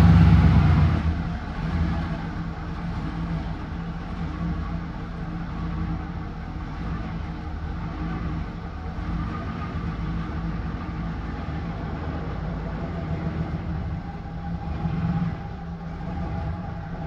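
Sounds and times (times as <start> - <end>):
vee eight engine idling: 0.0 - 17.0.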